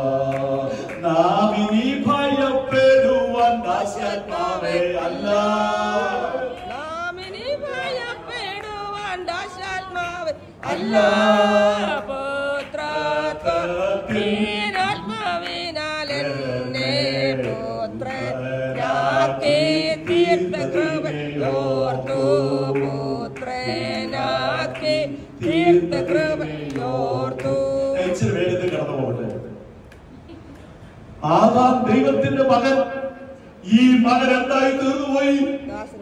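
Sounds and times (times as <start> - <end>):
worship song singing: 0.0 - 30.0, 31.1 - 35.8.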